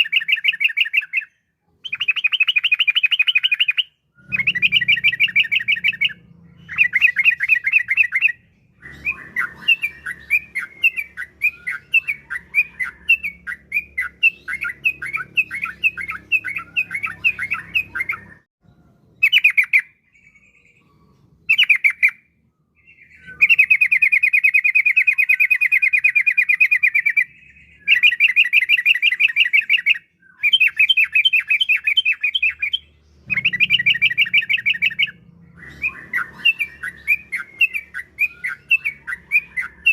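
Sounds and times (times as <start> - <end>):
bird singing chattering trills: 0.0 - 18.5, 22.8 - 39.9.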